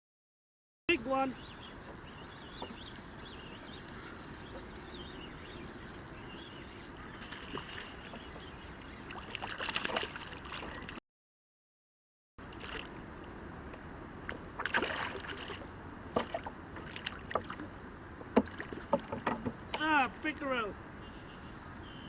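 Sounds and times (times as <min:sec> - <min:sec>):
water splashing around kayak: 0:01.0 - 0:11.0, 0:12.4 - 0:20.3.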